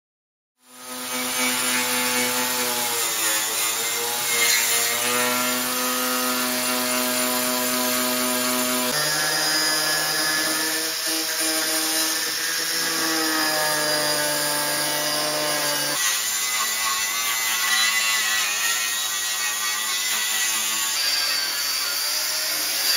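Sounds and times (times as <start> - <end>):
angle grinder grinding steel: 0.7 - 22.9.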